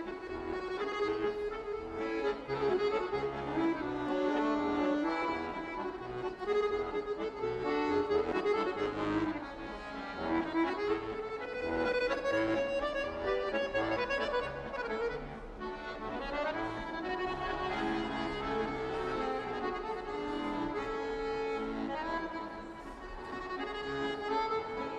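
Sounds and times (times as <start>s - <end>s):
accordion folk tune: 0.0s - 24.9s.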